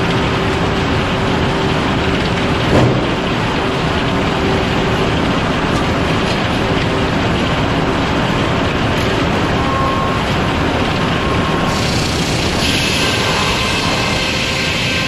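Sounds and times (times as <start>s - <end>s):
sawmill machinery rattling: 0.0s - 15.0s.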